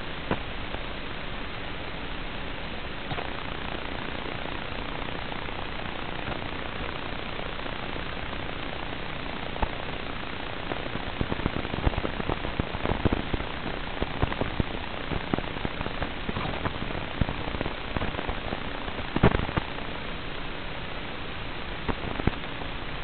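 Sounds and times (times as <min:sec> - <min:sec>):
crackles and pops: 0:00.0 - 0:23.0
steady static hiss: 0:00.0 - 0:23.0.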